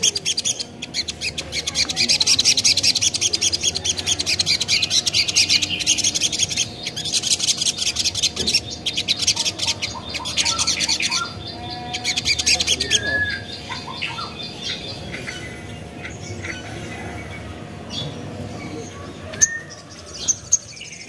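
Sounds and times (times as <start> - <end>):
bird fast high-pitched chattering: 0.0 - 21.0.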